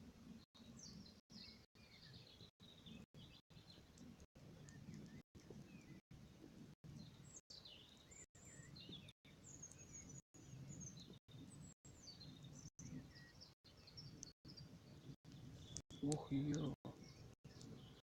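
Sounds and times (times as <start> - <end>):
small birds chirping: 0.1 - 18.0.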